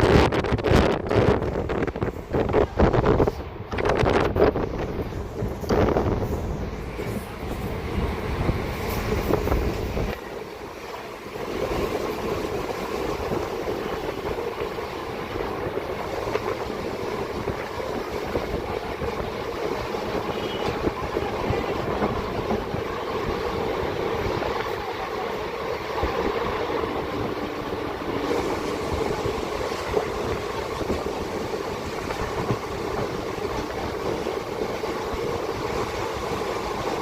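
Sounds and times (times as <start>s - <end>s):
train wheels rumbling on rails: 0.0s - 37.0s
wind buffeting microphone: 0.0s - 37.0s.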